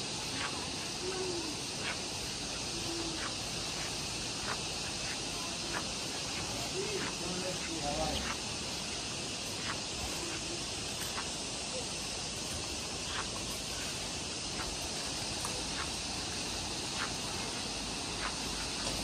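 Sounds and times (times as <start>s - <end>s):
outdoor garden hiss: 0.0s - 19.0s.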